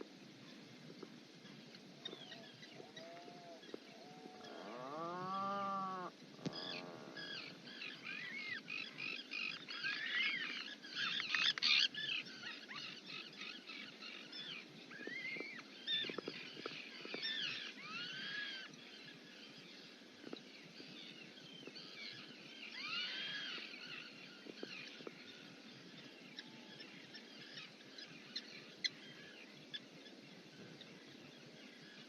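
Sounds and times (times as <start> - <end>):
birds chirping in chorus: 1.0 - 32.0.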